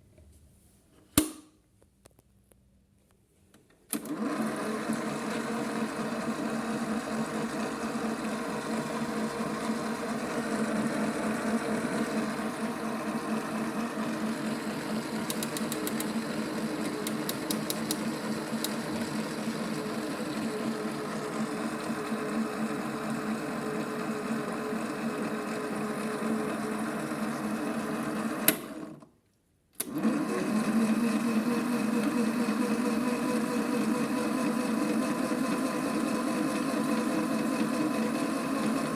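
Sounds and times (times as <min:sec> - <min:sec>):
toy washing machine motor buzzing: 0:04.0 - 0:28.5, 0:29.9 - 0:38.9.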